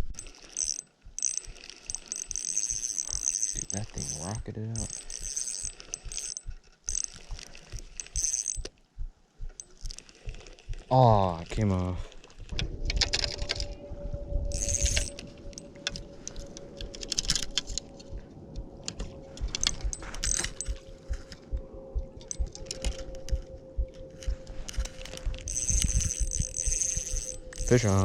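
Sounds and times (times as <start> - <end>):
fishing tackle clicking and rattling: 0.0 - 8.8, 9.5 - 10.9, 11.6 - 21.5, 22.2 - 28.0
faint steady hum: 0.0 - 28.0.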